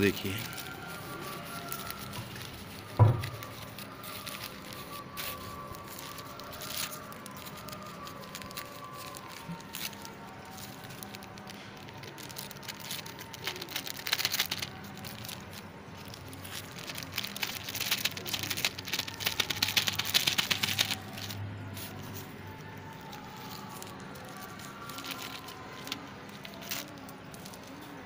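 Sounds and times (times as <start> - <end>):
plastic crinkling and rustling: 0.0 - 28.0.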